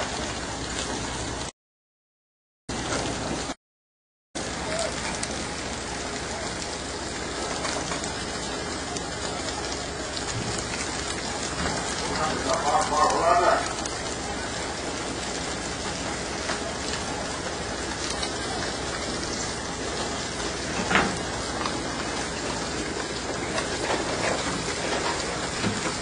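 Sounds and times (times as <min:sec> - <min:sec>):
water rushing along boat hull: 0:00.0 - 0:01.5, 0:04.4 - 0:26.0.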